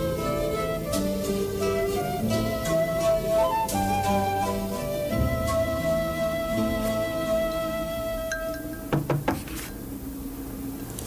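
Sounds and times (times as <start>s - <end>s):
plucked string notes: 0.0s - 9.2s.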